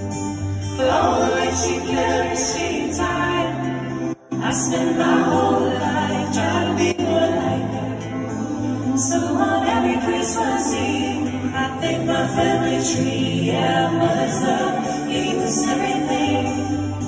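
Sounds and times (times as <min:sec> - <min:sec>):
vocal group singing in harmony: 0:00.0 - 0:17.0.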